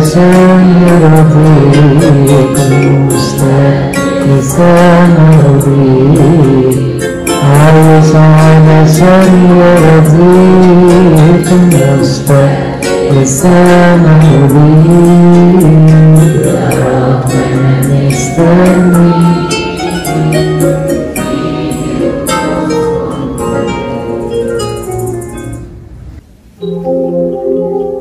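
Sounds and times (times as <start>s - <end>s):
man singing: 0.0s - 22.8s
backing music: 0.0s - 28.0s.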